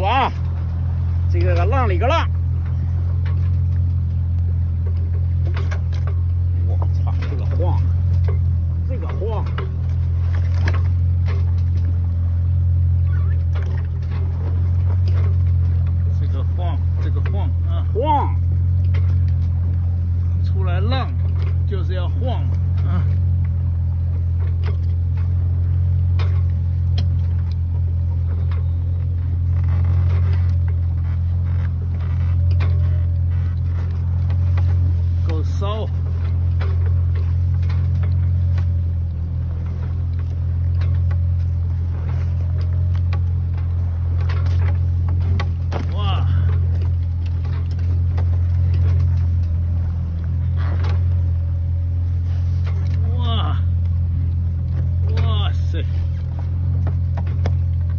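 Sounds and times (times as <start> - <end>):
boat engine droning: 0.0 - 57.9.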